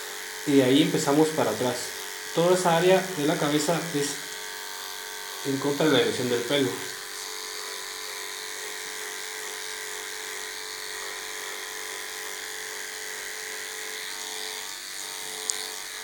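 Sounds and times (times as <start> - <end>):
electric clipper humming: 0.0 - 16.0.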